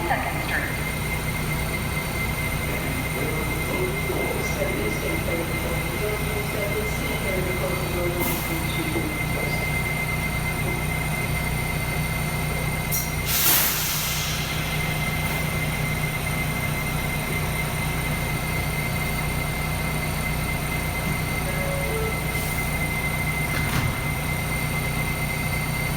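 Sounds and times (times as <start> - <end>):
subway train rumbling: 0.0 - 25.9.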